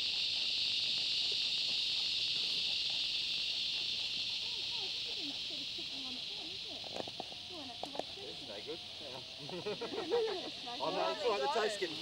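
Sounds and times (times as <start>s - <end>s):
cicadas chorus: 0.0s - 12.0s.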